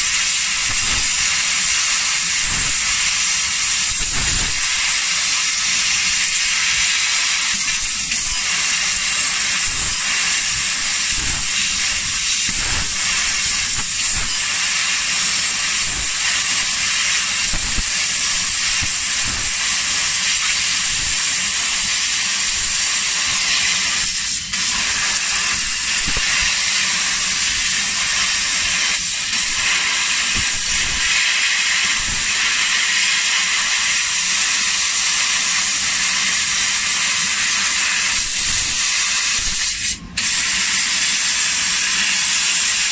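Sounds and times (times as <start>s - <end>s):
laser cutter gas jet hissing: 0.0s - 42.9s.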